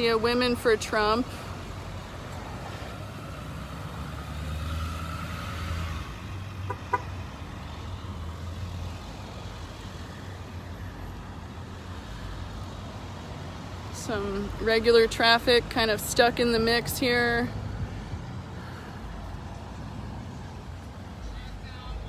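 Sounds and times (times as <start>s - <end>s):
cars and trucks driving past: 0.0s - 22.0s.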